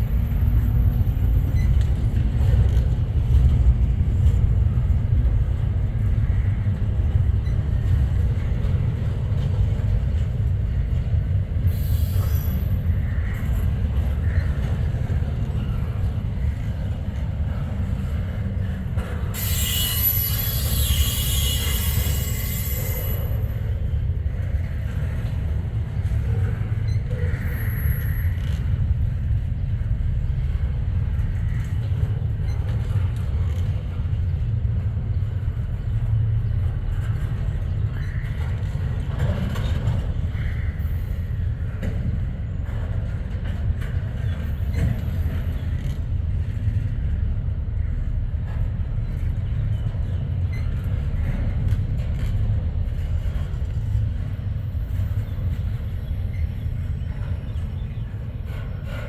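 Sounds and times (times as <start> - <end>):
freight train rumbling by: 0.0 - 59.0.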